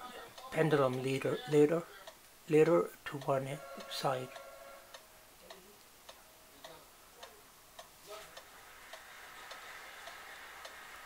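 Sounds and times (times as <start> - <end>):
wall clock ticking faintly: 0.3 - 11.0.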